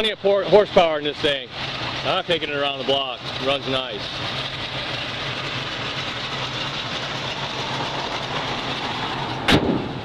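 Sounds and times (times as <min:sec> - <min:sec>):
car engine idling with lope: 0:00.0 - 0:10.0.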